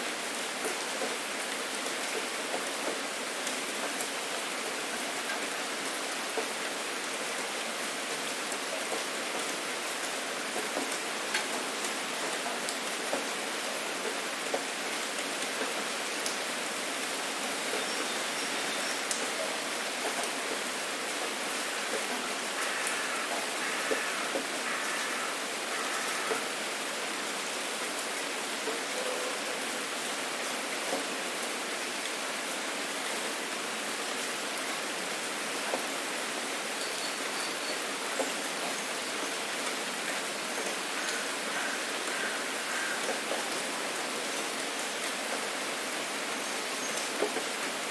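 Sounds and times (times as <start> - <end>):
steady rain hiss: 0.0 - 47.9
raindrops ticking on surfaces: 0.1 - 47.9.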